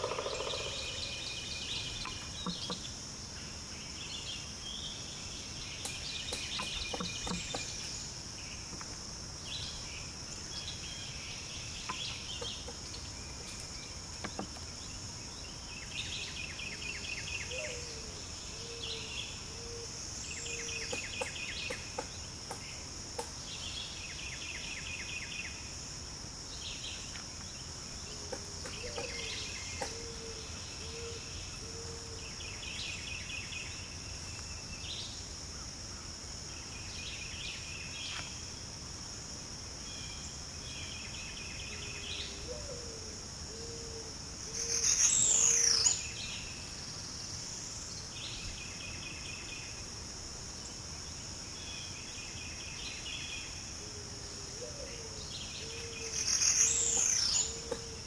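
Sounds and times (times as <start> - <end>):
bird song phrases: 0.0 - 8.7, 9.4 - 25.6, 26.5 - 35.3, 39.8 - 49.8, 50.6 - 58.0
high insect drone: 0.0 - 58.0.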